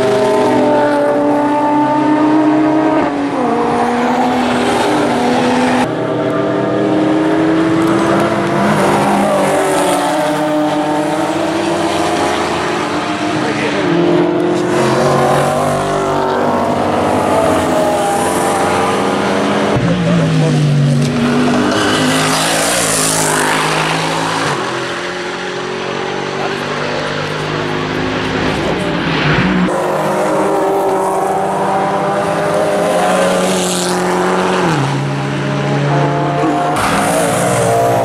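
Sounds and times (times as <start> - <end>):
racing cars passing at speed: 0.0 - 38.0.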